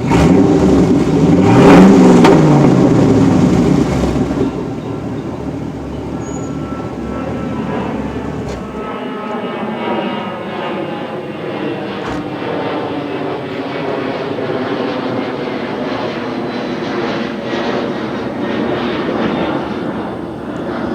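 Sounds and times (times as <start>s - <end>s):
loud exhaust drone: 0.0s - 20.9s.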